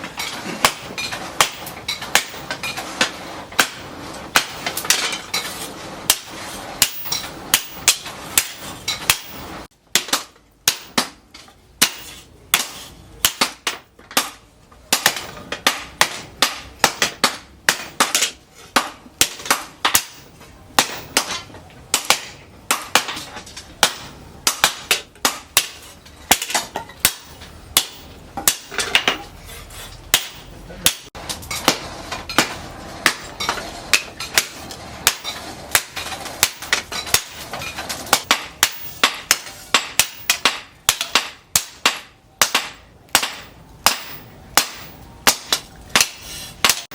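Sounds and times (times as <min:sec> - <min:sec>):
hammer clanging on steel: 0:00.0 - 0:46.9.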